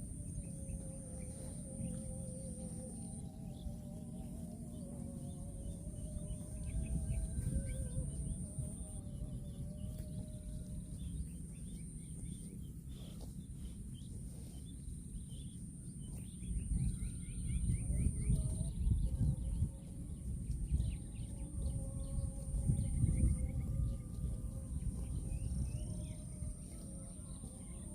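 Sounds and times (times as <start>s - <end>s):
high-pitched whine: 0.0s - 27.9s
low rumbling noise: 0.0s - 27.9s
small birds chirping: 0.0s - 27.9s.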